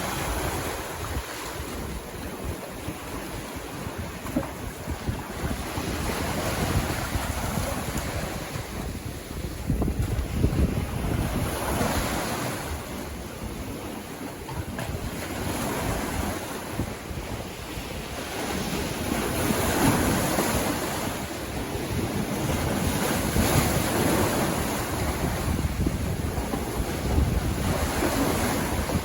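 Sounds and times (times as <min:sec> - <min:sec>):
sea waves breaking on beach: 0:00.0 - 0:29.0
wind rumbling on microphone: 0:00.0 - 0:29.0.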